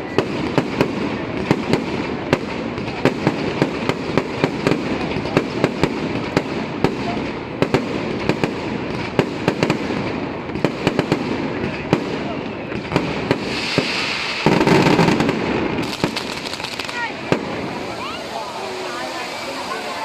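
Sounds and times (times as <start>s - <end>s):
fireworks bangs: 0.0s - 20.0s
fireworks crackling: 0.0s - 20.0s.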